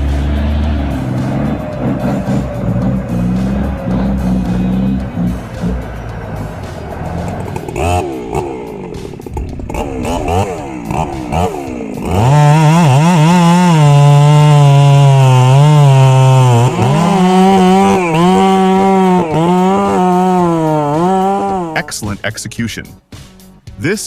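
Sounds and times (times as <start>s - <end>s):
chainsaw engine revving: 0.0s - 21.9s.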